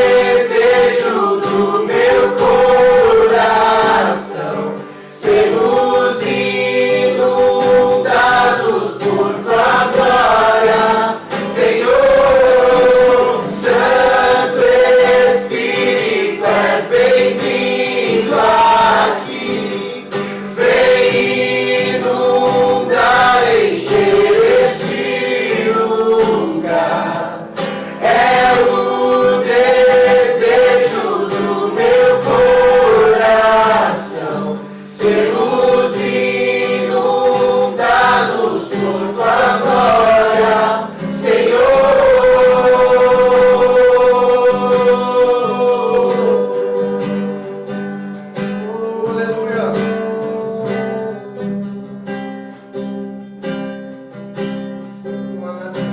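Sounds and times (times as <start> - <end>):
group singing worship song: 0.0 - 51.6
acoustic guitar: 0.0 - 55.9.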